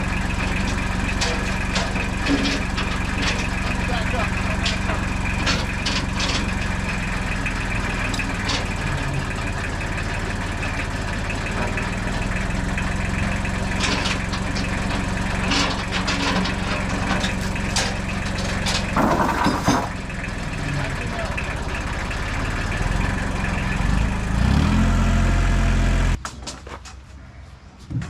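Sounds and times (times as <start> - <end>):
knocks and clanks: 0.0 - 23.7
loud rattle: 0.0 - 24.0
engine idling: 0.0 - 26.2.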